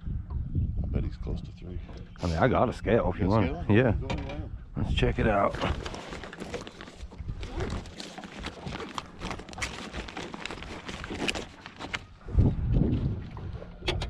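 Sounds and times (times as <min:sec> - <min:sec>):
wind rumble on microphone: 0:00.0 - 0:06.0, 0:07.0 - 0:14.0.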